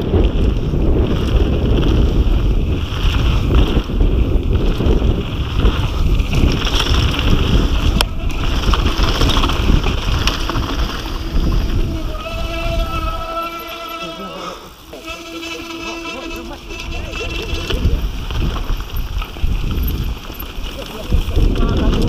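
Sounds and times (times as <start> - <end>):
tyres rumbling on dirt trail: 0.0 - 22.0
wind buffeting microphone: 0.0 - 22.0.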